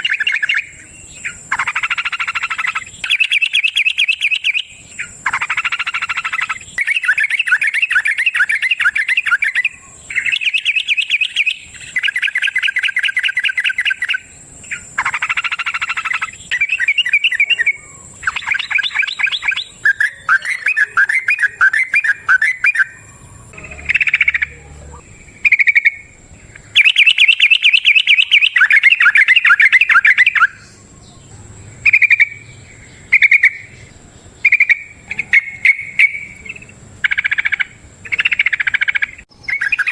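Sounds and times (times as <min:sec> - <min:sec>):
bulbul rippling song: 0:00.0 - 0:39.9
short bird calls: 0:00.0 - 0:39.9.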